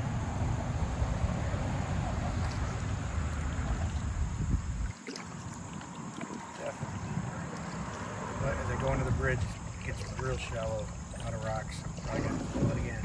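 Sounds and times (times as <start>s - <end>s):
wind buffeting microphone: 0.0s - 5.7s, 6.3s - 13.0s.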